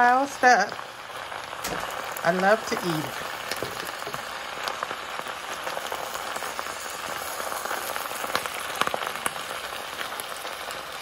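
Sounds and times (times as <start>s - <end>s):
greens sizzling in a hot pan: 0.0s - 11.0s.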